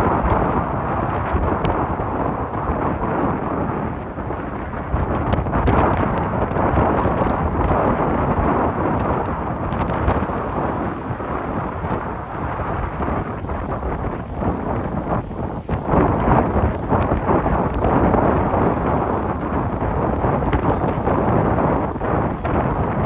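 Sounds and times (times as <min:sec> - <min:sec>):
gusty wind on microphone: 0:00.0 - 0:23.0.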